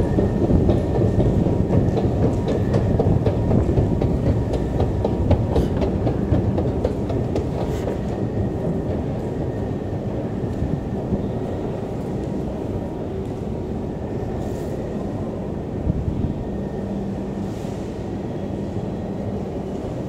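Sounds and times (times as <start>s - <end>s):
train rumbling and rattling: 0.0s - 20.0s.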